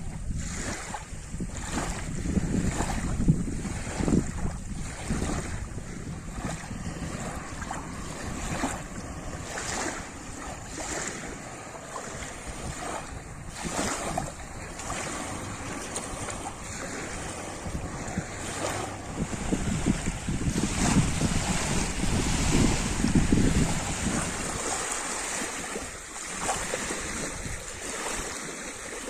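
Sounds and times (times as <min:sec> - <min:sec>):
lake waves lapping on shore: 0:00.0 - 0:29.0
wind rumbling on microphone: 0:00.0 - 0:29.0.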